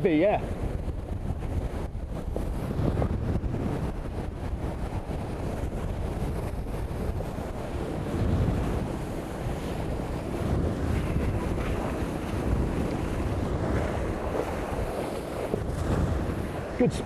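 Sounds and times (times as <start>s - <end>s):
water rushing past hulls: 0.0s - 17.0s
wind buffeting microphone: 0.0s - 17.0s.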